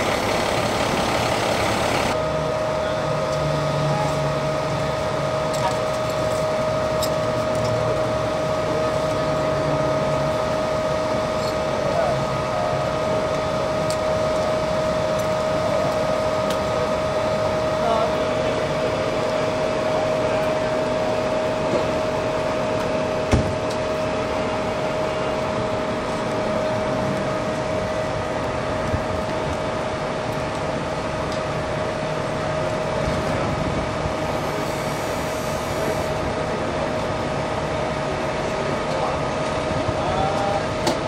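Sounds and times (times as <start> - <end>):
vehicle engines idling: 0.0 - 41.0.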